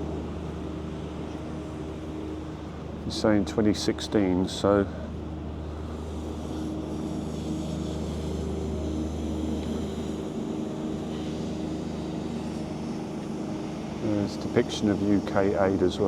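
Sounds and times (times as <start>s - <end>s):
vehicle engine drone: 0.0s - 16.0s.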